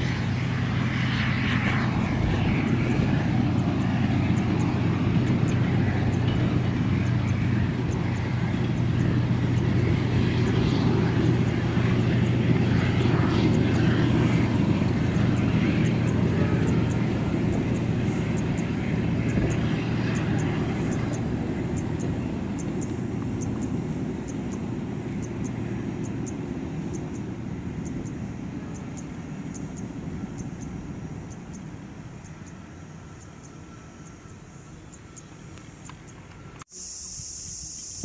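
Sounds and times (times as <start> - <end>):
train rumbling: 0.0 - 36.7
diesel locomotive engine drone: 0.0 - 38.0.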